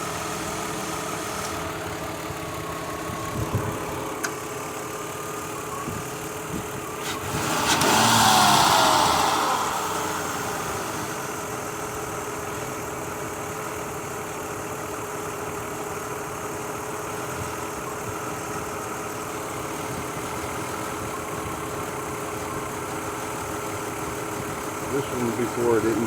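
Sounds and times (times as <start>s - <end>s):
car engine idling with misfire: 0.0s - 26.0s.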